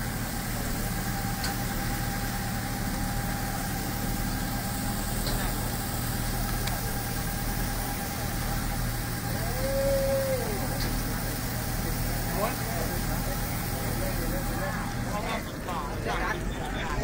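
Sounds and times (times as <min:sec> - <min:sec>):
vehicle engine idling: 0:00.0 - 0:17.0
water hose spraying: 0:00.0 - 0:17.0.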